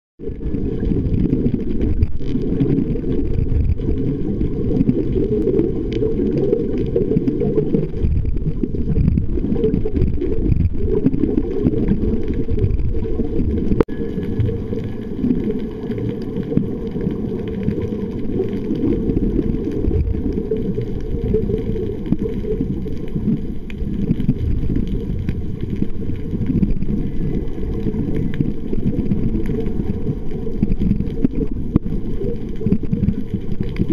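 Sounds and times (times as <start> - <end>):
muffled underwater rumble: 0.2 - 33.9.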